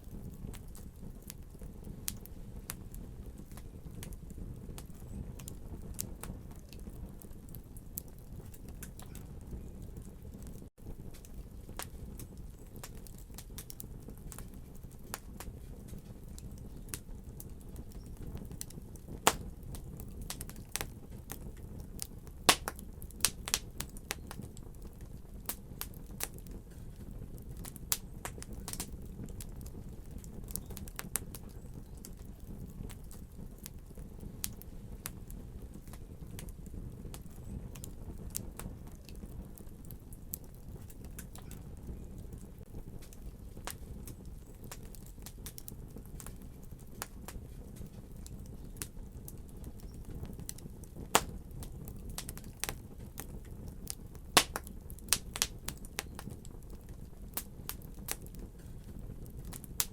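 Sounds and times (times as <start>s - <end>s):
fire crackling and popping: 0.0s - 59.9s
fire rumbling in fireplace: 0.0s - 59.9s.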